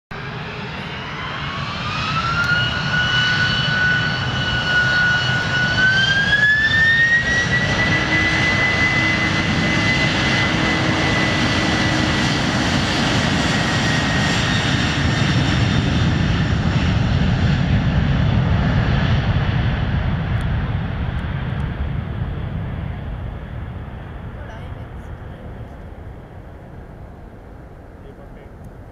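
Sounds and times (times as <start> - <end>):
loud jet rumble: 0.1 - 28.9
jet engines spooling up: 0.2 - 27.2.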